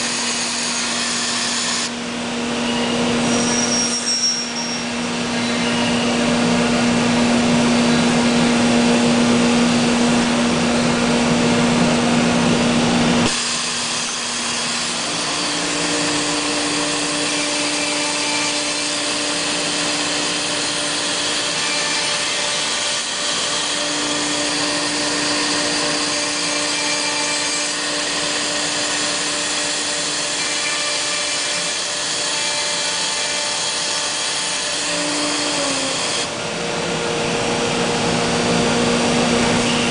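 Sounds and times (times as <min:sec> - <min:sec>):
machine spindle whine cutting wood: 0:00.0 - 0:39.9.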